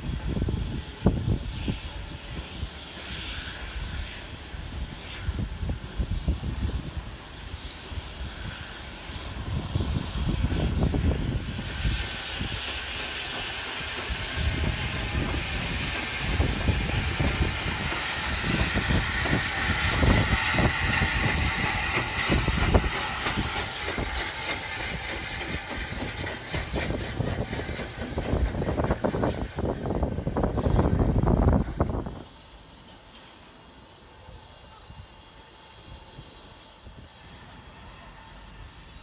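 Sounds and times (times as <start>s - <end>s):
steam engine chuffing: 0.0s - 39.0s
steam hissing: 0.0s - 39.0s.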